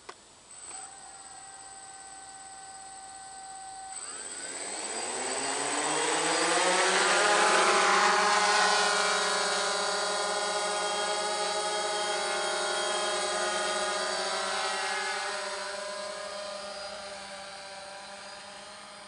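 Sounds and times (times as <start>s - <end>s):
drone motors whining: 0.4s - 19.0s.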